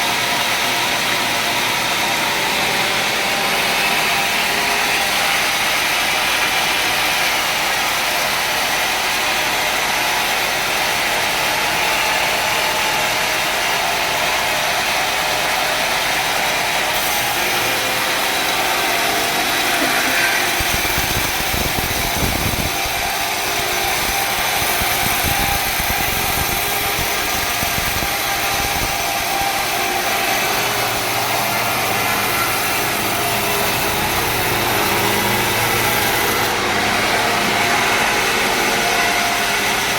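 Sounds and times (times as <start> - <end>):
sawmill engine and saw: 0.0 - 39.9.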